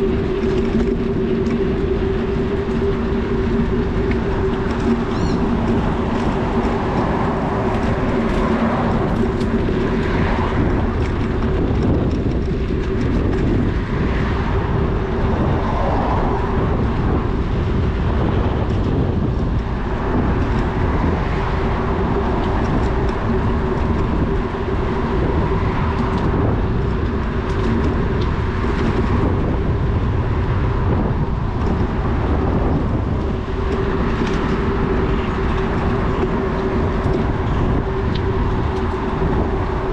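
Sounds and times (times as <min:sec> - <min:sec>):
bicycle rumble: 0:00.0 - 0:39.9
constant low hum: 0:00.0 - 0:39.9
wind noise: 0:00.0 - 0:39.9.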